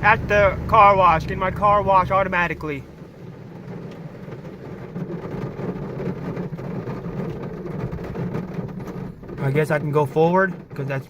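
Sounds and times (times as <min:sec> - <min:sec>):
car engine idling: 0:00.0 - 0:11.0
car wash machinery rumbling: 0:00.0 - 0:11.0.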